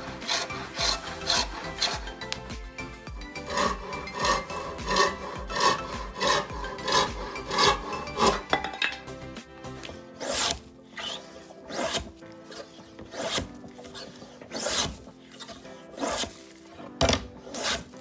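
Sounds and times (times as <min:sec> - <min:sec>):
frame saw rasping strokes: 0:00.0 - 0:08.6, 0:09.3 - 0:18.0
hand plane shaving board: 0:00.0 - 0:08.7, 0:09.3 - 0:18.0.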